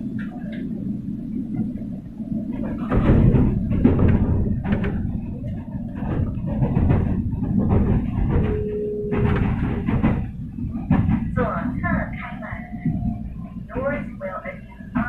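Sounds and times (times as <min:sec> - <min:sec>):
train rumble on track: 0:00.0 - 0:15.0.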